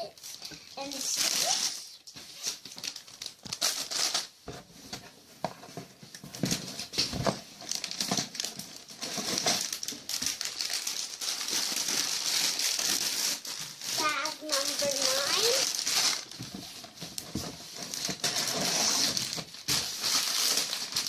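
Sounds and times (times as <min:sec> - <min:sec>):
plastic bags crinkling: 0:00.0 - 0:04.4, 0:06.2 - 0:21.0.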